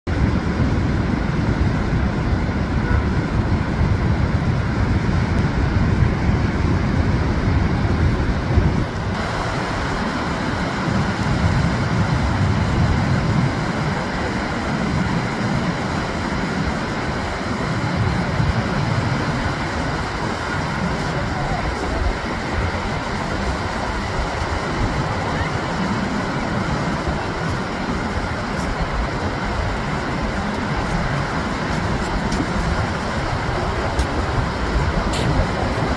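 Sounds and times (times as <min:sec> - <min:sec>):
surf washing up beach: 0:00.1 - 0:35.9
wind on microphone: 0:00.1 - 0:35.9.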